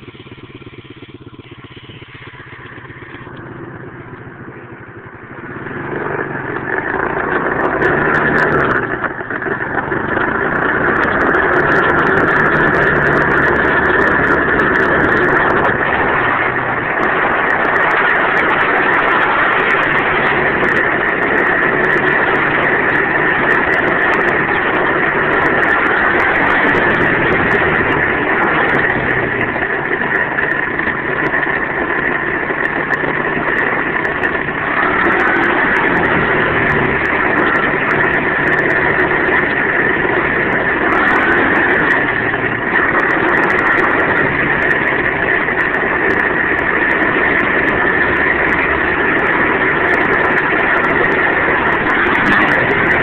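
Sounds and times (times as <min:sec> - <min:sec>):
motorbike engine running: 0:00.0 - 0:53.0.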